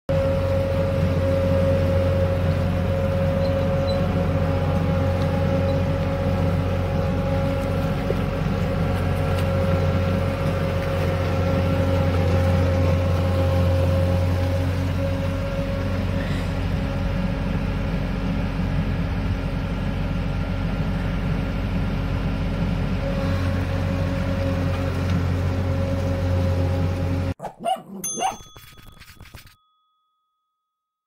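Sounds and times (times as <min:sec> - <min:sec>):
constant whine: 0:00.1 - 0:27.4
diesel engine running: 0:00.1 - 0:27.4.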